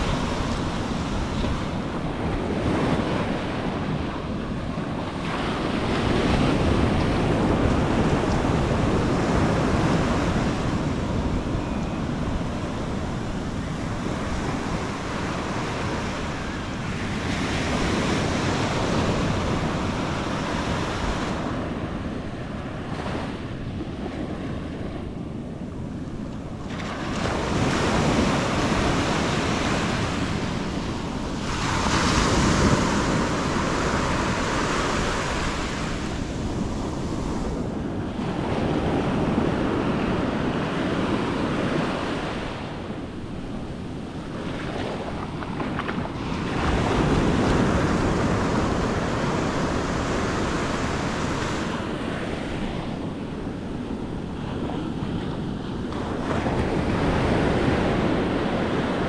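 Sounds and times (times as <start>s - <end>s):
ocean surf breaking on sand: 0.0s - 59.0s
wind buffeting microphone: 0.0s - 59.0s.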